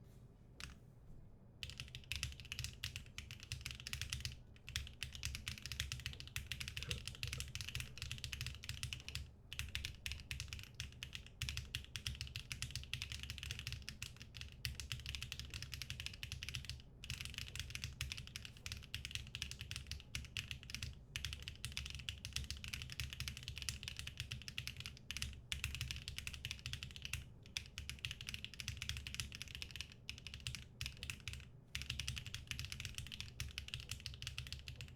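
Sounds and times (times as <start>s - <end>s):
mechanical keyboard typing: 1.6s - 34.9s.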